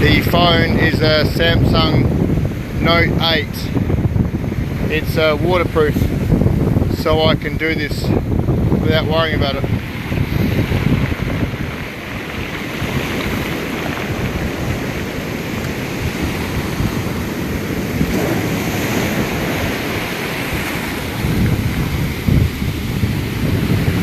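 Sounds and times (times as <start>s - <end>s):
surf breaking: 0.0s - 24.0s
wind buffeting microphone: 0.0s - 24.0s.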